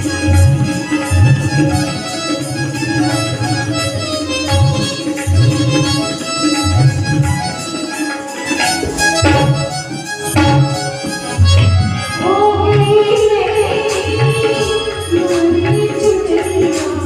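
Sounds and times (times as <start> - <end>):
hand drum beat: 0.0 - 17.0
reedy keyboard melody: 0.0 - 17.0.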